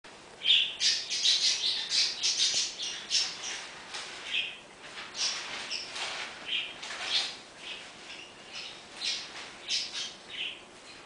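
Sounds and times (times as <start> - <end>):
bird chirping and squawking: 0.4 - 10.7.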